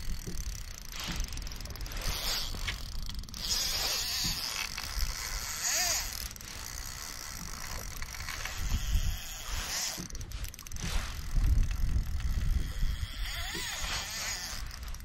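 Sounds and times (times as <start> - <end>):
fishing reel gears whirring: 0.0 - 15.0.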